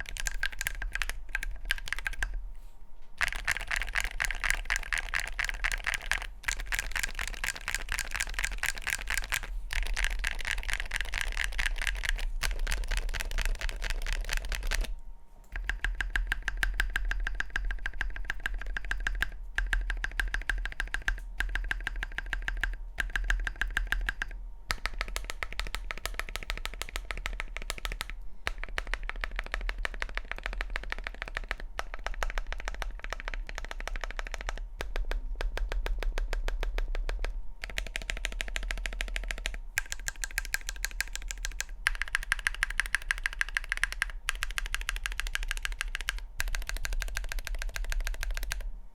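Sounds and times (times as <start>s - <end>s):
mechanical keyboard typing: 0.0s - 2.4s, 3.2s - 14.9s, 15.5s - 48.7s.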